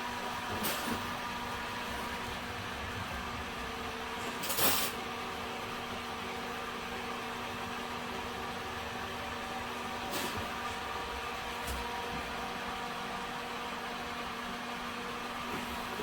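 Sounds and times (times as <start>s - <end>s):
fan motor hum: 0.0s - 16.0s.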